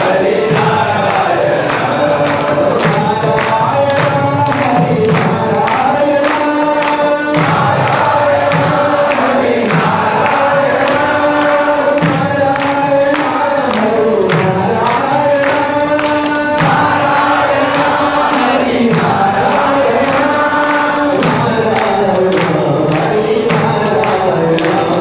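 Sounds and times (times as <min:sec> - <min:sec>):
many voices singing: 0:00.0 - 0:25.0
person chanting over microphone: 0:00.0 - 0:25.0
steady beat: 0:00.0 - 0:25.0.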